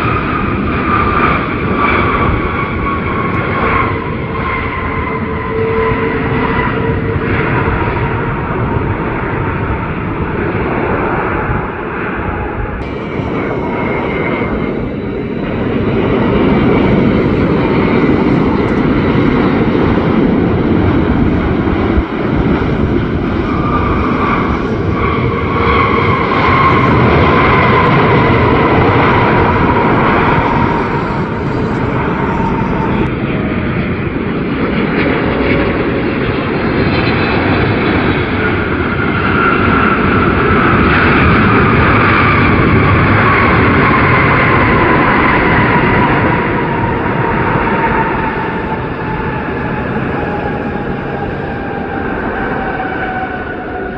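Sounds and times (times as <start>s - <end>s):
jet airliner passing low: 0.0s - 53.9s.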